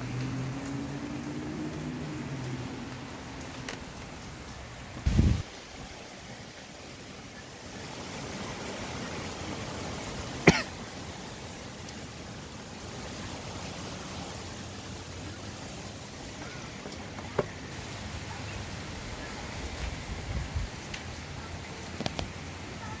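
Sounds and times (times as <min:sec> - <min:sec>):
wind and rain rushing: 0:00.0 - 0:23.0.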